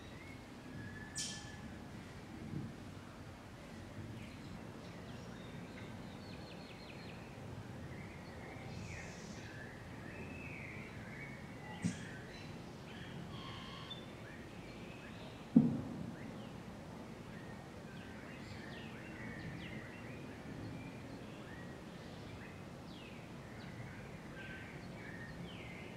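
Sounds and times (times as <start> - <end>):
outdoor background noise: 0.0 - 25.9.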